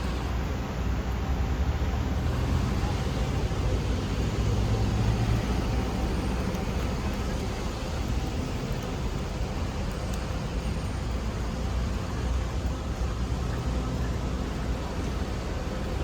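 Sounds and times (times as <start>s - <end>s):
traffic rumble: 0.0s - 16.0s
vehicle engine hum: 0.0s - 16.0s.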